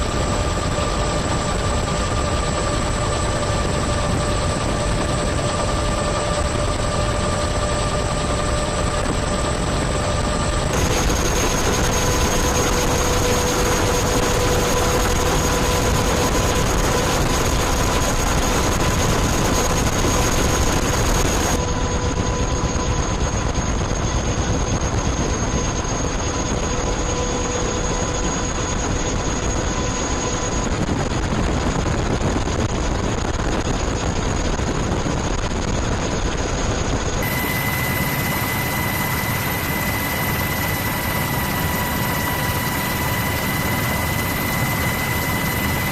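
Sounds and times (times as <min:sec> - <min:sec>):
engine whines: 0:00.0 - 0:31.6, 0:35.2 - 0:45.9
aircraft engines rushing: 0:00.0 - 0:45.9.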